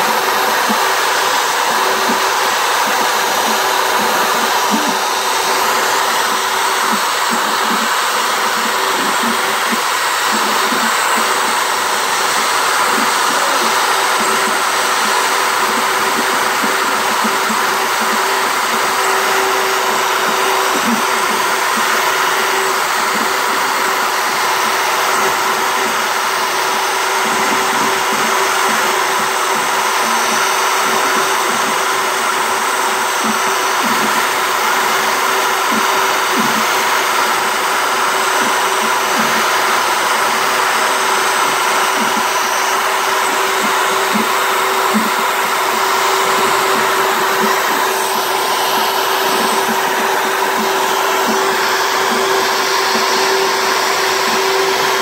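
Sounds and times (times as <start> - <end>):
bit cutting wood: 0.0 - 55.0
router spindle motor whine: 0.0 - 55.0.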